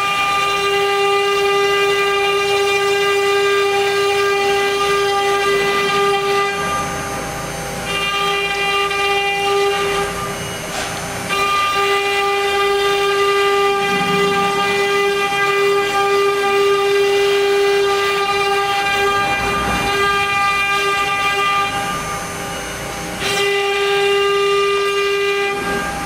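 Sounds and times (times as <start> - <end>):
router spindle high-pitched whine: 0.0 - 26.0.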